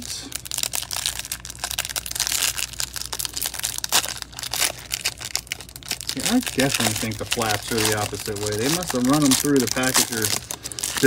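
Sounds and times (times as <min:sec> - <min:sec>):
cardboard crinkling and tearing: 0:00.4 - 0:11.0.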